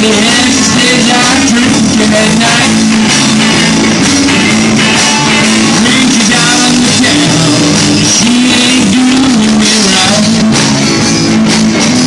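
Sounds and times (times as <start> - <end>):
live blues-rock band playing: 0.0 - 12.0.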